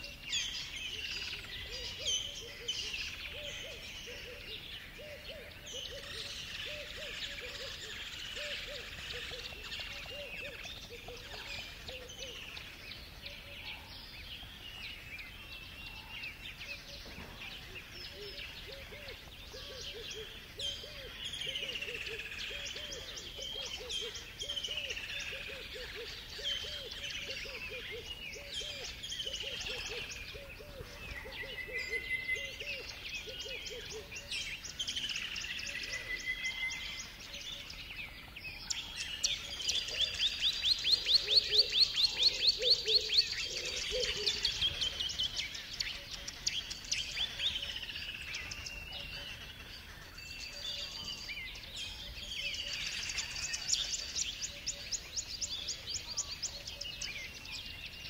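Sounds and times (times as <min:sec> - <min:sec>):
birds calling: 0:00.0 - 0:58.0.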